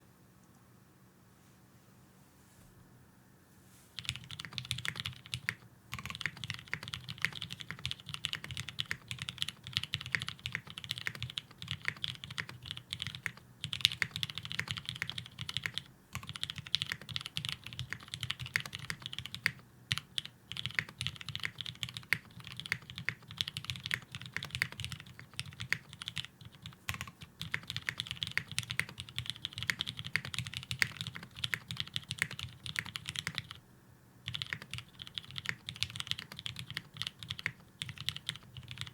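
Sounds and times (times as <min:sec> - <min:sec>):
fast mechanical keyboard typing: 0:04.0 - 0:33.6, 0:34.3 - 0:38.9.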